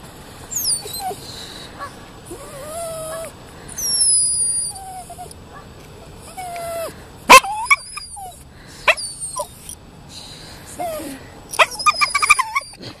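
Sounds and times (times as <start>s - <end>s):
dog whining and yipping: 0.5s - 9.8s, 10.8s - 12.8s.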